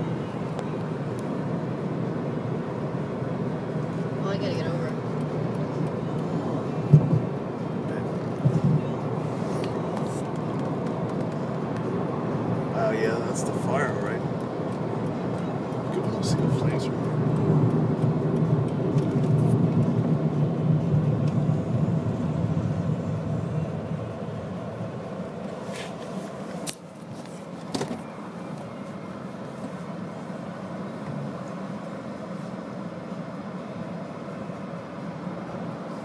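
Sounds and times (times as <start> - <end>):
car road and engine noise: 0.0 - 36.0.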